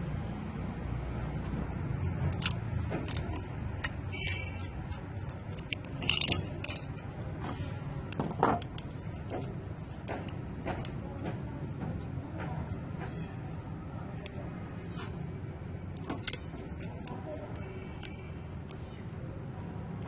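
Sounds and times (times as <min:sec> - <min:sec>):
hard parts clicking and tapping: 0:01.0 - 0:20.0.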